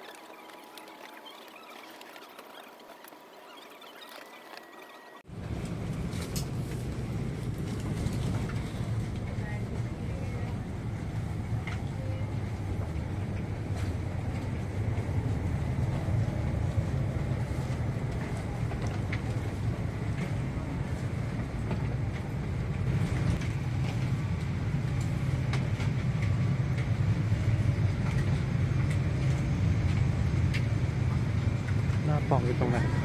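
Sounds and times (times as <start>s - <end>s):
vehicle interior rumble: 5.3s - 33.0s.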